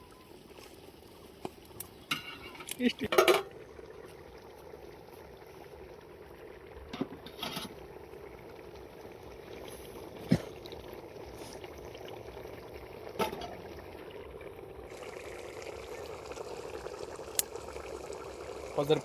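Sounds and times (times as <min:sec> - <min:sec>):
pot of curry bubbling: 0:00.0 - 0:19.0.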